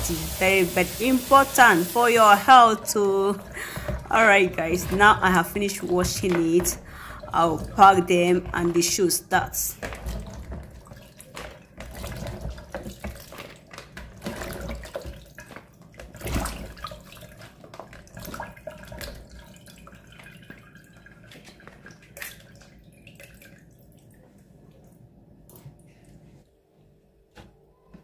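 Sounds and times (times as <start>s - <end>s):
water splashing and dripping: 0.0s - 8.8s, 9.7s - 24.9s.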